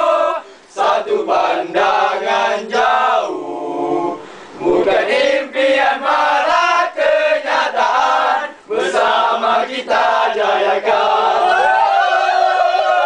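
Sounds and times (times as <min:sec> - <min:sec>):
young men singing and chanting: 0:00.0 - 0:13.0.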